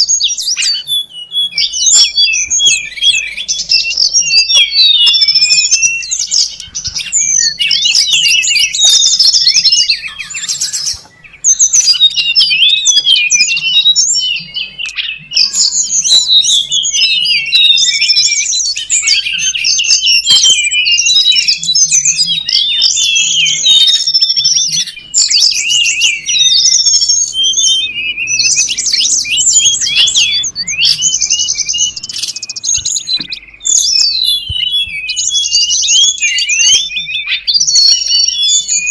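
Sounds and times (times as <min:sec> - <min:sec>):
birds chirping rapidly: 0:00.0 - 0:38.9.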